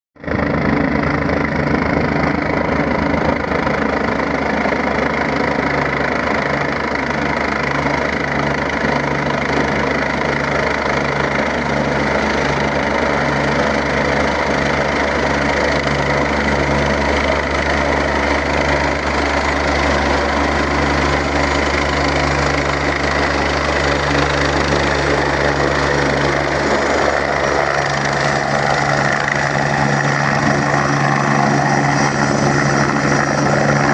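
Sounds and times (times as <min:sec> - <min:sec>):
helicopter engine and rotor drone: 0:00.2 - 0:33.9.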